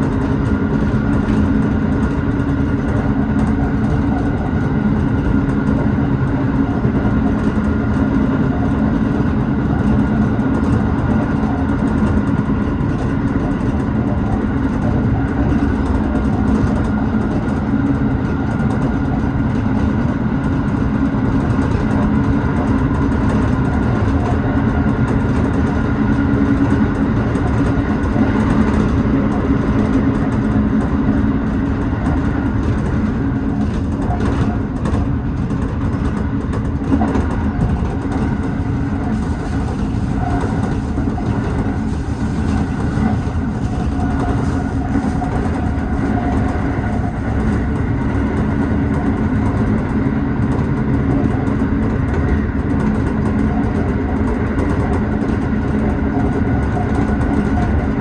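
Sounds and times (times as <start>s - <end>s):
electric train running: 0.0s - 58.0s.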